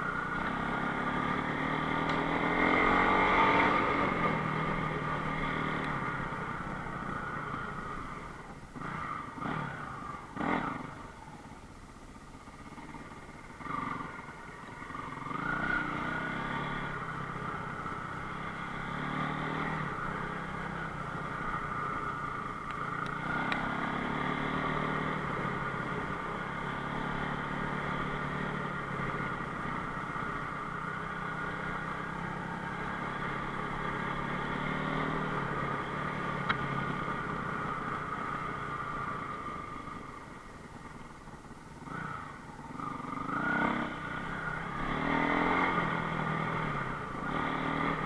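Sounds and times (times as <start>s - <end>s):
motorcycle engine revving: 0.0s - 11.6s, 12.4s - 48.0s.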